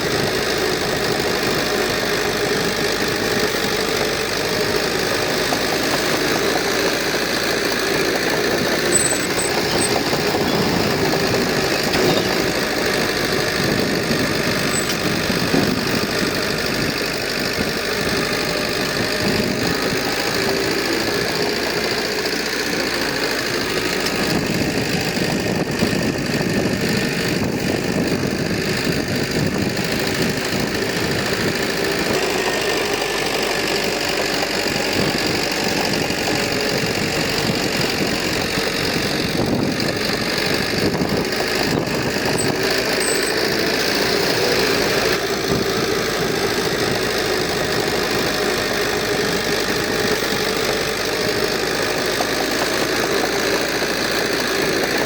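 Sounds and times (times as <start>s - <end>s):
diesel engine knocking: 0.0s - 55.0s.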